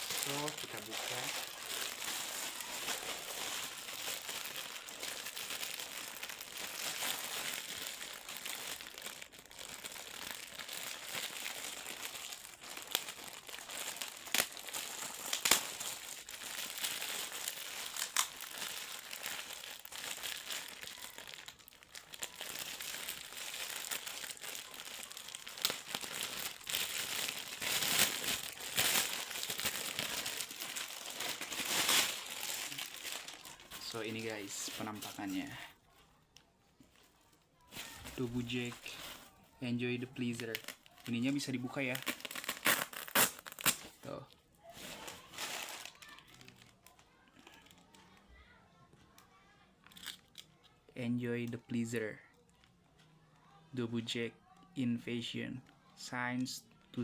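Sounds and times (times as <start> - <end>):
packaging crinkling and rustling: 0.0 - 36.0, 36.8 - 48.3, 49.1 - 50.5.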